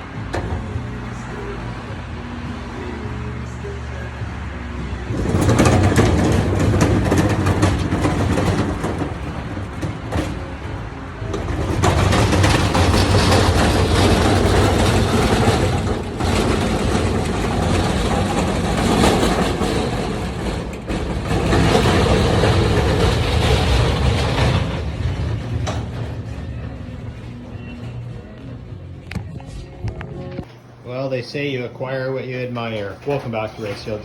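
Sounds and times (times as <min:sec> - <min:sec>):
vehicle engine rumble: 0:00.0 - 0:30.9
road noise: 0:00.0 - 0:34.0.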